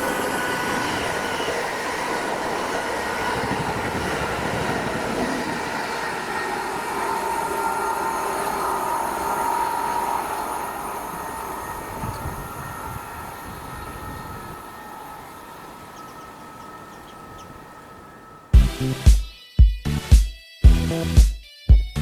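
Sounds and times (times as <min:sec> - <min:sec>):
faint whine: 0:00.0 - 0:18.6
train wheels rushing on rail: 0:00.0 - 0:19.0.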